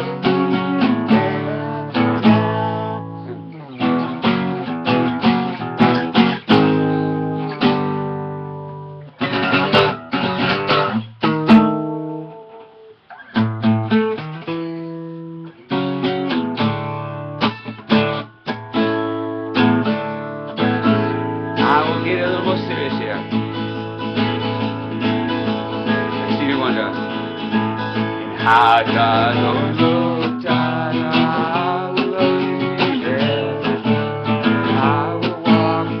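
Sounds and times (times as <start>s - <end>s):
guitar strumming chords: 0.0s - 36.0s.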